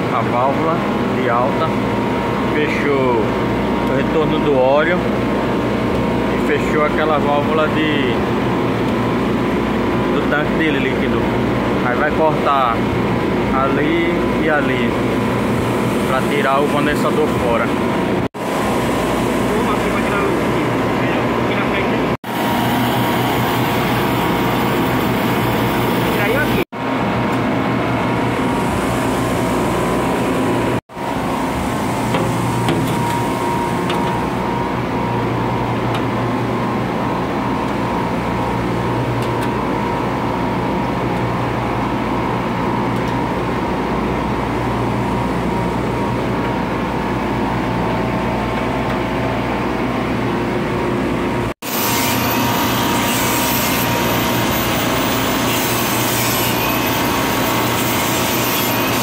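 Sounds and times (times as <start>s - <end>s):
refrigeration units humming: 0.0s - 59.0s.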